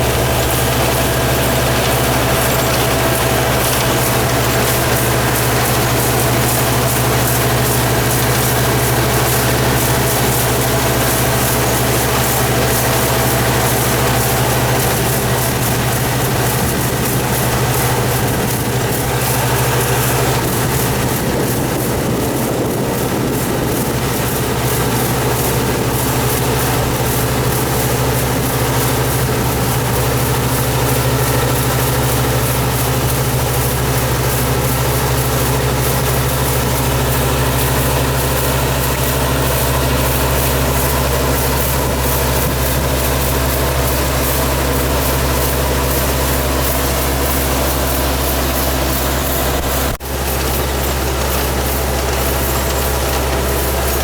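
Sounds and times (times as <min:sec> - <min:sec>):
combine harvester engine drone: 0:00.0 - 0:54.0
machinery noise: 0:00.0 - 0:54.0.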